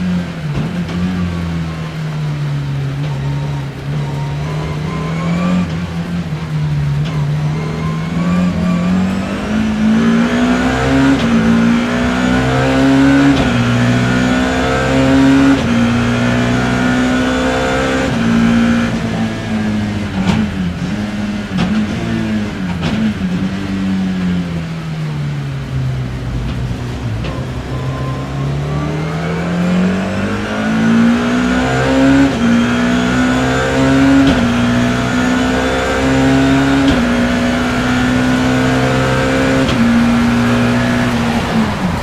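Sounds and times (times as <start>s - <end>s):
race car engine revving: 0.0s - 42.0s.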